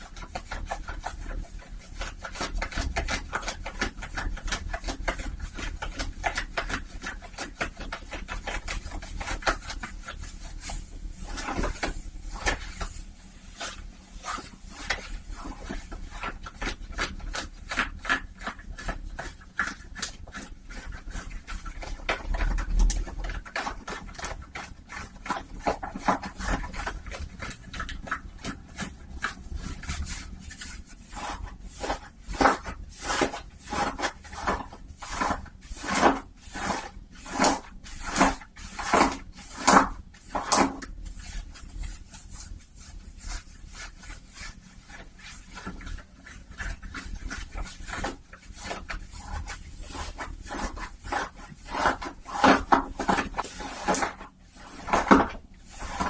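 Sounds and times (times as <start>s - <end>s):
fabric rubbing and scratching: 0.0s - 56.0s.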